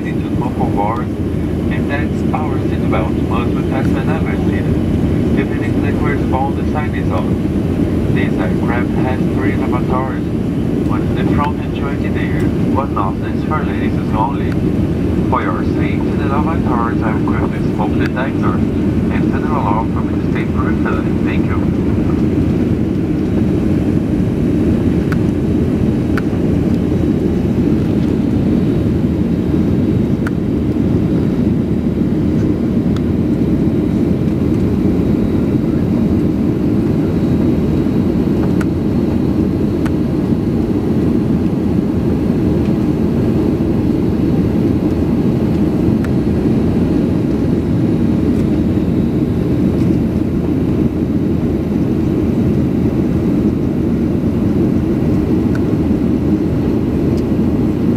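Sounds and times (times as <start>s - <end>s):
airplane cabin roar: 0.0s - 57.9s.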